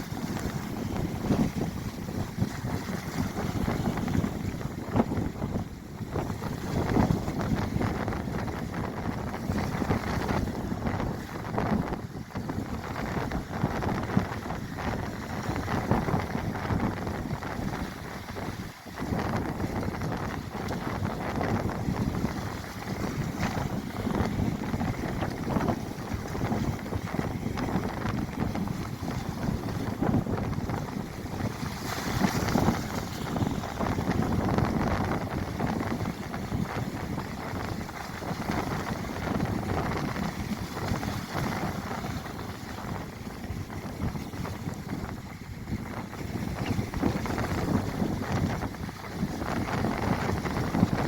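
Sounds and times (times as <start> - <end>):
rough water rushing: 0.0 - 51.0
storm wind on microphone: 0.0 - 51.0.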